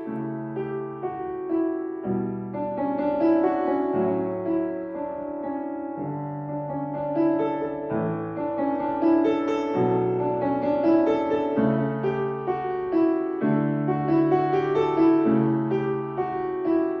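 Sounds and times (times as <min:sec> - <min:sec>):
solo piano piece: 0:00.0 - 0:17.0.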